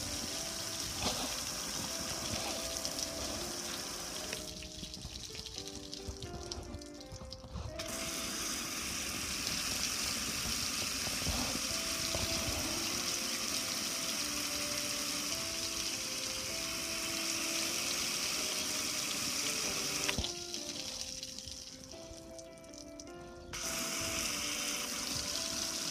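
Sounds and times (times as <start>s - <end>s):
water spraying and splashing: 0.0s - 22.4s, 23.6s - 25.9s.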